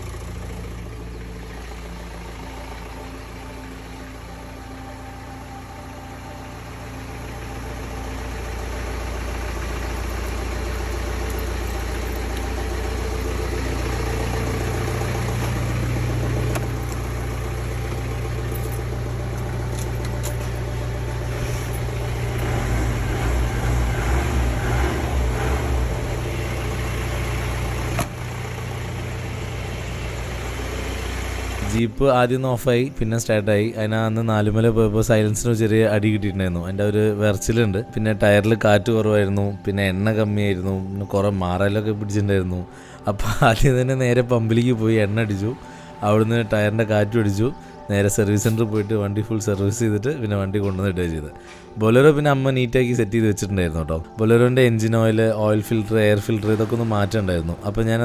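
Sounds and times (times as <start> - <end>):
car engine idling unevenly: 0.0 - 58.0.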